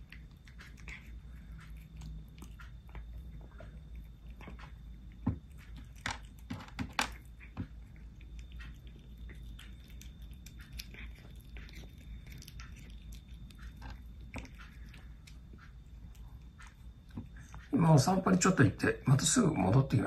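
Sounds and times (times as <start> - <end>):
cat chewing wet food: 0.0 - 20.0.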